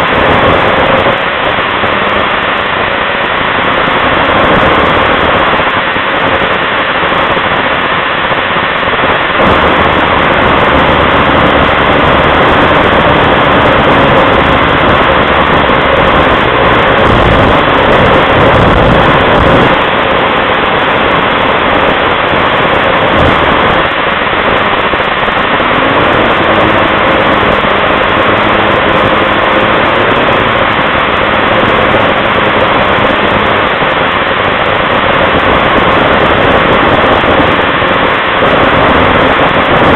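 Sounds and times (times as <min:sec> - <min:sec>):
snowmobile engine and track rush: 0:00.0 - 0:39.9.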